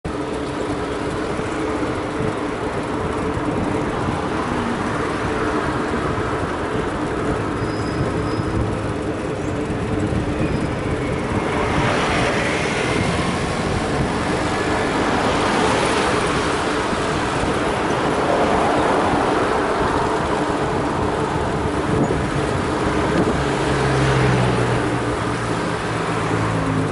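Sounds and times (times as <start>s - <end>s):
street traffic: 0.0s - 26.9s.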